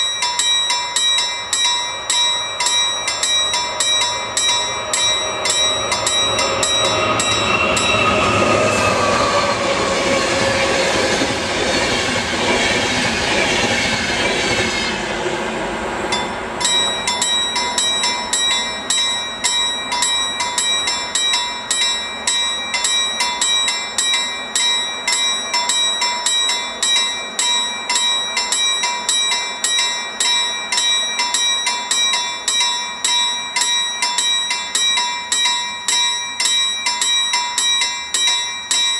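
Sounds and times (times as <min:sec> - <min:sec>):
level crossing warning bell: 0:00.0 - 0:11.2, 0:16.1 - 0:38.9
electric train passing: 0:00.0 - 0:38.9.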